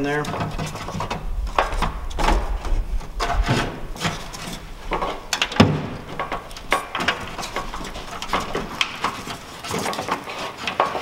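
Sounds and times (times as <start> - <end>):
wiring rubbing and scraping: 0.0 - 11.0.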